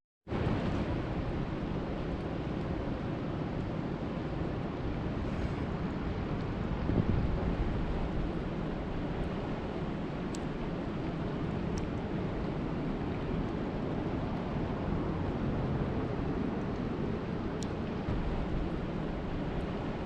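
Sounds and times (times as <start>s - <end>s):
rushing water: 0.3s - 20.0s
wind: 0.3s - 20.0s.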